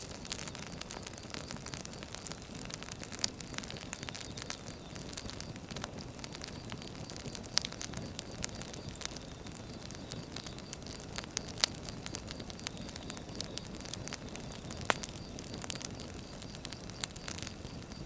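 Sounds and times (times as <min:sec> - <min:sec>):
firewood burning and crackling: 0:00.0 - 0:18.0.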